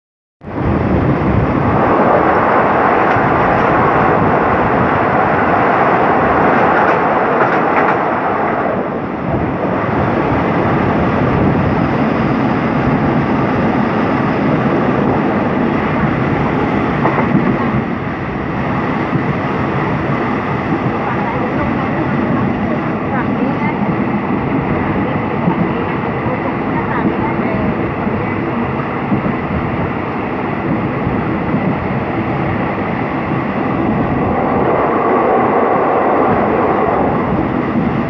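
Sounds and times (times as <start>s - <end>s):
train wheels running on rails: 0.8s - 38.0s.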